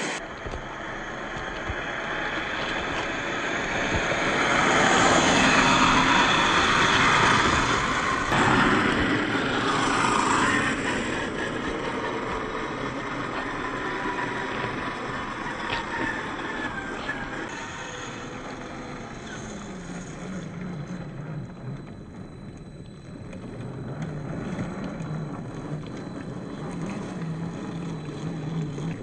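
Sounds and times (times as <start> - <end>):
electric motor whine: 0.0 - 29.0.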